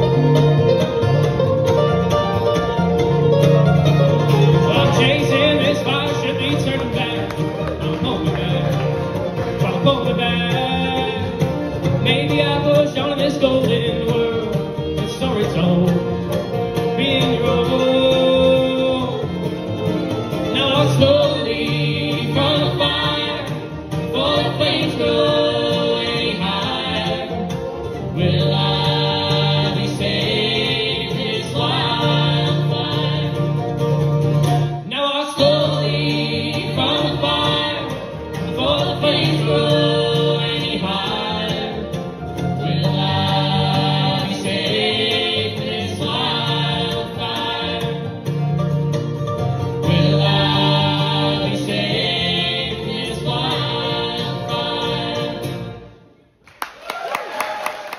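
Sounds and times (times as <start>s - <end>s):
upright bass: 0.0s - 56.2s
banjo: 0.0s - 56.3s
mandolin: 0.0s - 56.4s
acoustic guitar: 0.0s - 56.8s
harmony voices: 0.0s - 57.9s.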